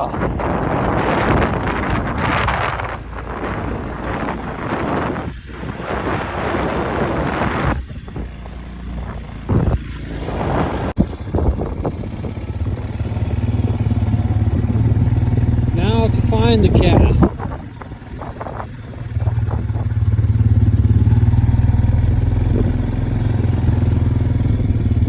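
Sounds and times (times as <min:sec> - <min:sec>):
atv engine running: 0:00.0 - 0:25.0
wind blasting the microphone: 0:00.0 - 0:25.0.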